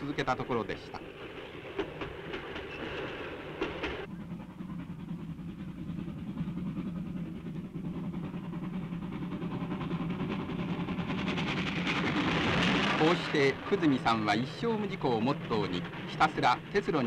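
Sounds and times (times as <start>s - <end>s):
steam locomotive rumble: 0.0s - 17.0s.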